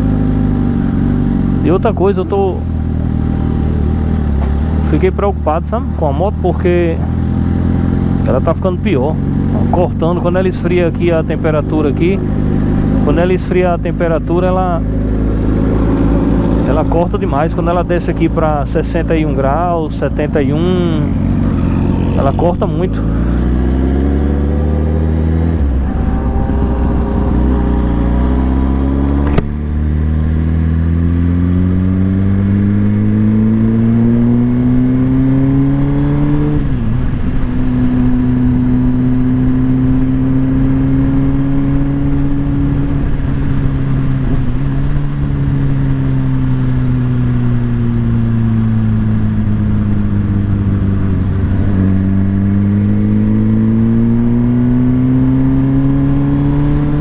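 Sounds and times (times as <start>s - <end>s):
motorcycle engine shifting gears: 0.0s - 57.0s.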